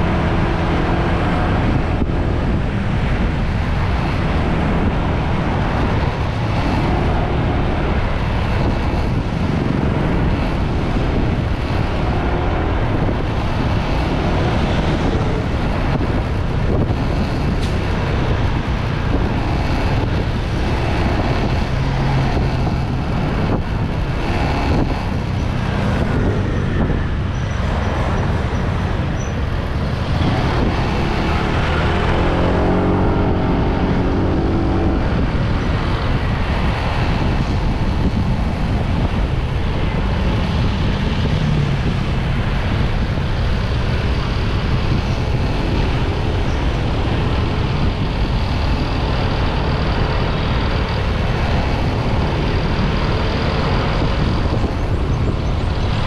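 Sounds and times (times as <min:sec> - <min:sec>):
road noise: 0:00.0 - 0:56.0
wind noise on microphone: 0:00.0 - 0:56.0.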